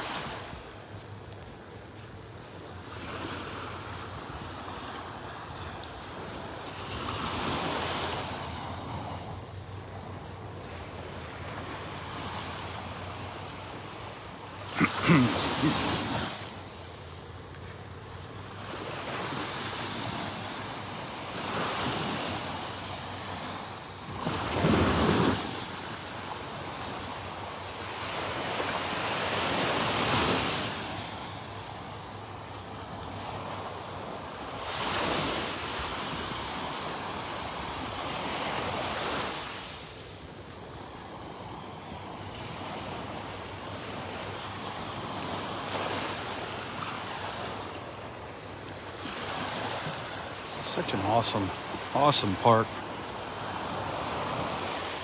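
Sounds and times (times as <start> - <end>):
waves lapping on sandy beach: 0.0 - 55.0.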